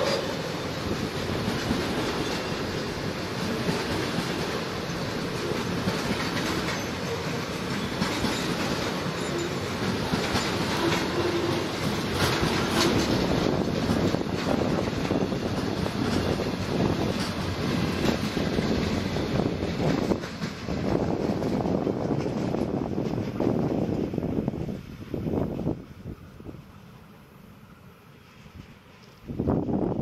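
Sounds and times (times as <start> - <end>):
wheels clicking over rail joints: 0.0 - 25.8
freight train wheels rumbling: 0.0 - 30.0.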